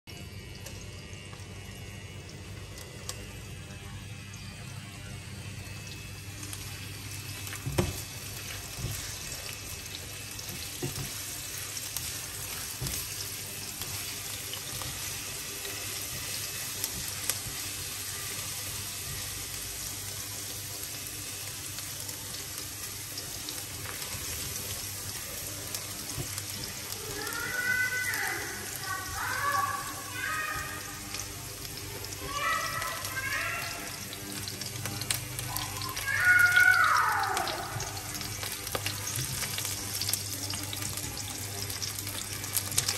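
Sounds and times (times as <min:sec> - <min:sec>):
garlic sizzling in oil: 0:05.2 - 0:42.9.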